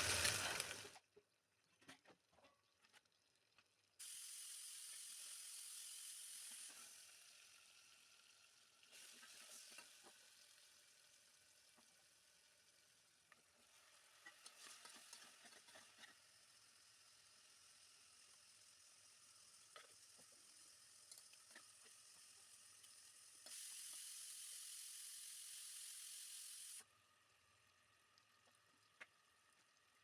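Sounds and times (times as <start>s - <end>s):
food frying in oil: 0.0s - 1.0s, 2.8s - 30.0s.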